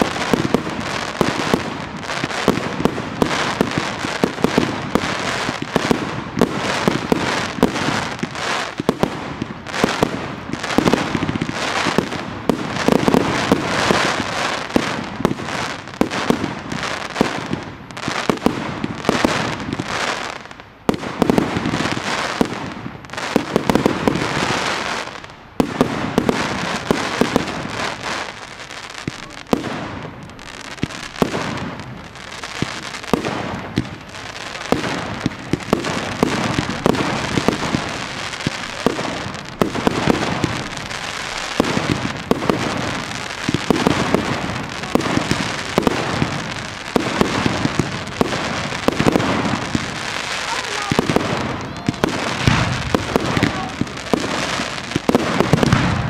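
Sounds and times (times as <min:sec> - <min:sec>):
fireworks bangs and cracks: 0:00.0 - 0:56.0.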